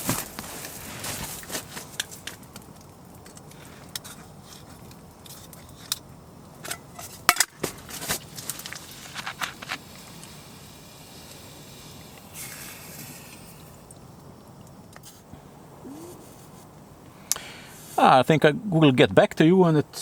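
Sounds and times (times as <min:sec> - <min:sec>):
low steady background: 0:00.1 - 0:20.0.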